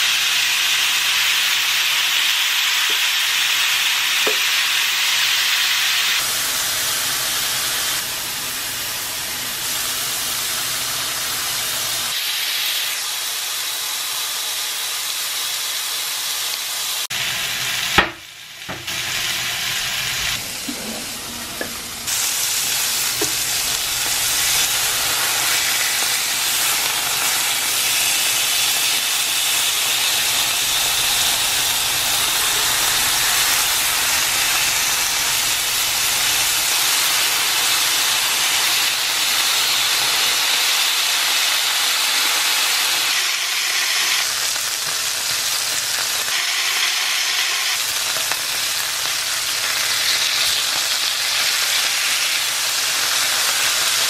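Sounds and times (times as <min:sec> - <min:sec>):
burger patties sizzling on grill: 0:00.0 - 0:54.0.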